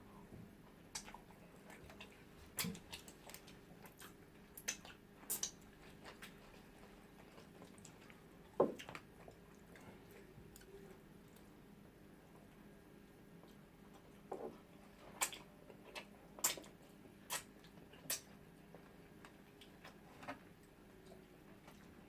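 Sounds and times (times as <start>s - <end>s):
chewing and mouth smacks: 0.9s - 11.5s, 13.4s - 22.0s.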